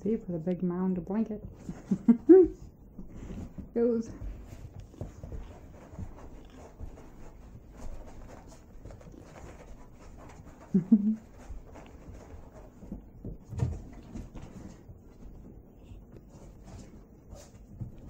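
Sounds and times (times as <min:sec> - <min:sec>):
dog scuffling on a rug: 0:01.4 - 0:18.0.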